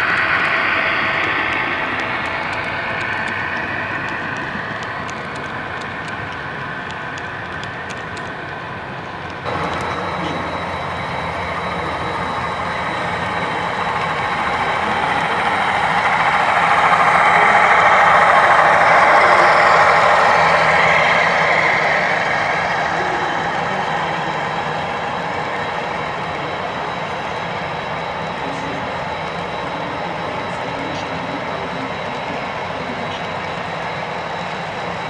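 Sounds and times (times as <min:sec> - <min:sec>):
model diesel locomotive engine sound: 0:00.0 - 0:35.0
model train cars rolling on track: 0:00.0 - 0:35.0.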